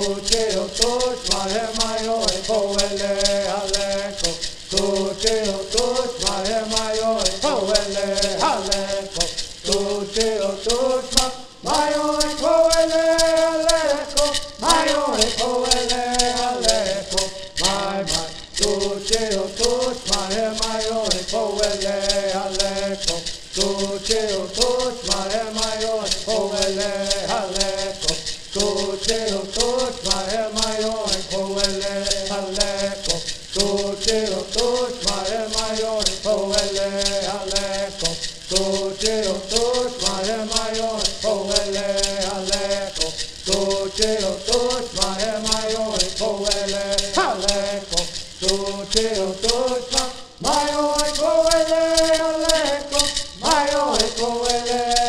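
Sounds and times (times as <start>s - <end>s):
gourd rattles shaking: 0.0s - 55.0s
men singing in unison: 0.0s - 55.0s.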